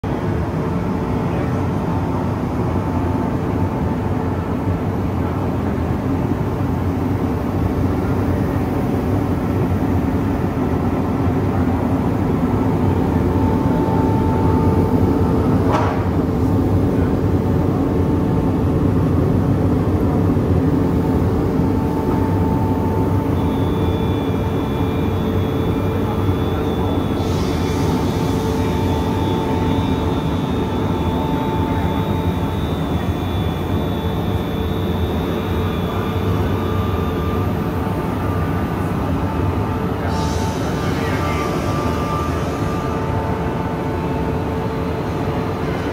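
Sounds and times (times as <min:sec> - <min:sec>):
high whine: 0:00.1 - 0:45.9
milling machine motors humming: 0:07.2 - 0:45.9.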